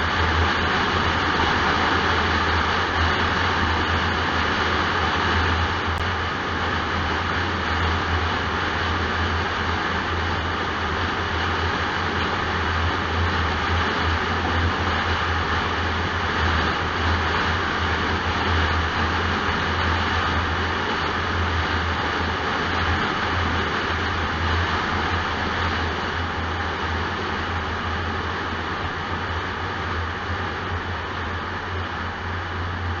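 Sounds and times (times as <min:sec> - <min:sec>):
tyre and road noise: 0:00.0 - 0:33.0.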